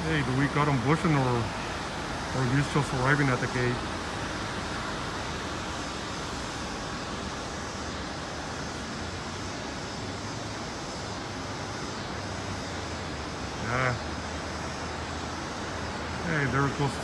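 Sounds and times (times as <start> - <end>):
distant jet engines rushing: 0.0 - 17.0.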